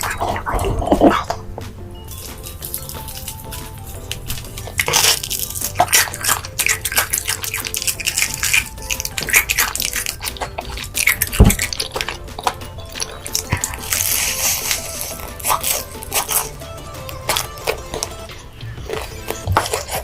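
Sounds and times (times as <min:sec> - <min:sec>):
chewing and crunching food: 0:00.0 - 0:20.0
faint background music: 0:00.0 - 0:20.0.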